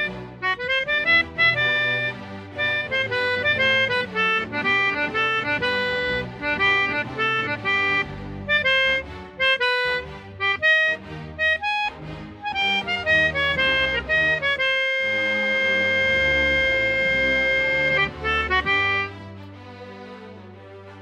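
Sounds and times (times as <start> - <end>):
melodica melody: 0.0 - 19.4.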